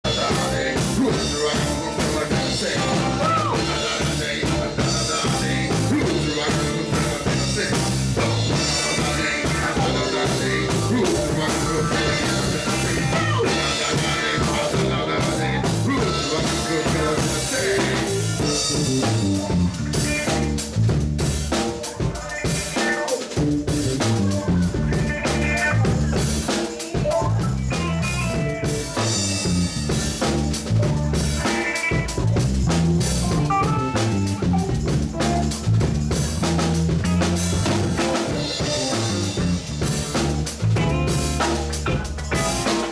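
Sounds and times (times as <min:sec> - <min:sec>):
bass line: 0:00.0 - 0:22.6, 0:23.3 - 0:42.9
drum kit: 0:00.0 - 0:42.9
funk band playing: 0:00.0 - 0:42.9.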